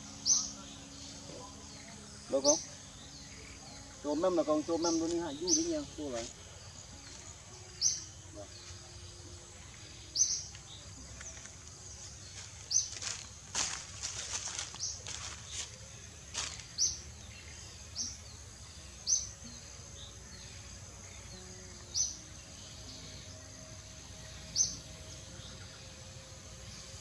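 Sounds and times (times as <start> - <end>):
bird chirping: 0.0 - 27.0
outdoor hiss: 0.0 - 27.0.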